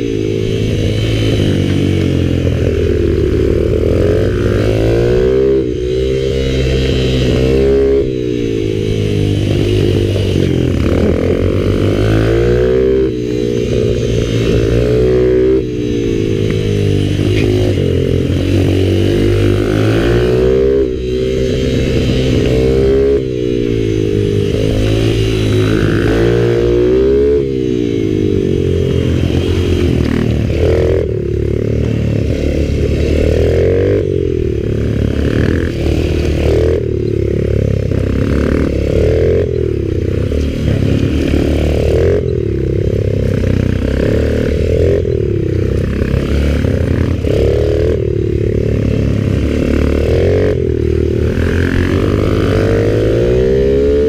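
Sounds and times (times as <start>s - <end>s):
mini bike engines revving: 0.0s - 54.0s.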